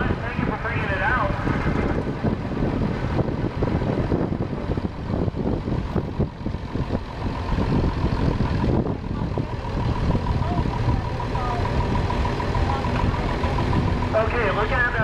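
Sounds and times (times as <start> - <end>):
tractor engine chugging: 0.0 - 15.0.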